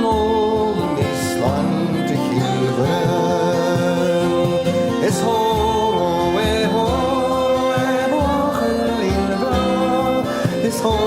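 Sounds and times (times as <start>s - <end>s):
instrumental accompaniment: 0.0s - 11.0s
person singing: 0.0s - 11.0s.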